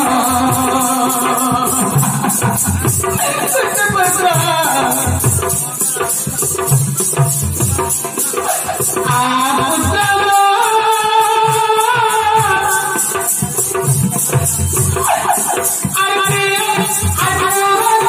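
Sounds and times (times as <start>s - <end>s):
person singing: 0.0s - 6.0s, 8.1s - 18.0s
drums: 0.0s - 18.0s.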